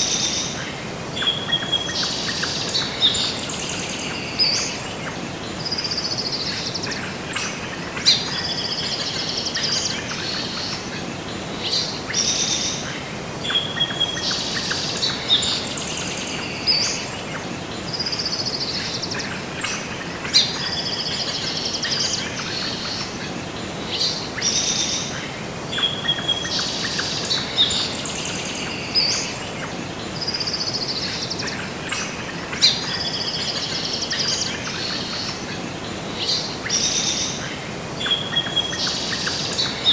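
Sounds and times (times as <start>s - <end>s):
songbirds chirping and singing: 0.0s - 39.9s
steady background hiss: 0.0s - 39.9s.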